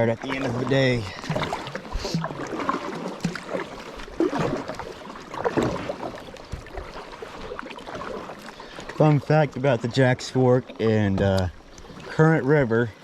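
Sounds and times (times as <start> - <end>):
paddle splashes in water: 0.0 - 13.0.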